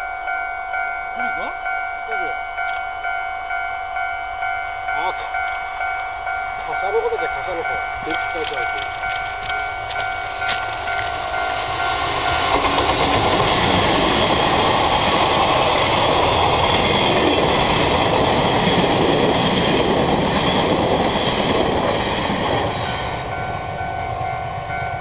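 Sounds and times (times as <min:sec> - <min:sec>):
train wheels rumbling on rails: 0:02.1 - 0:25.0.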